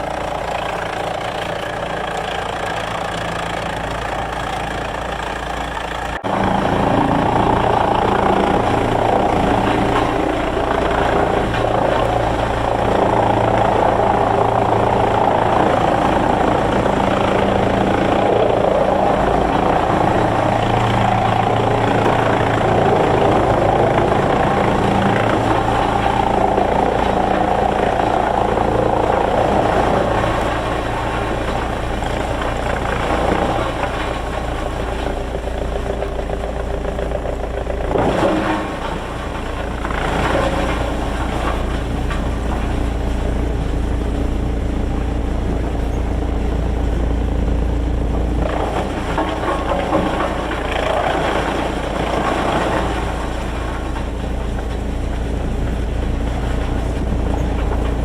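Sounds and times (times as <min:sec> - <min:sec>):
machinery clatter: 0:00.0 - 0:58.0
sawmill machinery drone: 0:00.0 - 0:58.0.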